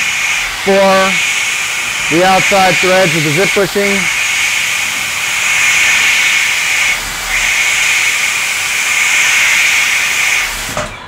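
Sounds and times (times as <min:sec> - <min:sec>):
milling machine hiss: 0:00.0 - 0:11.0.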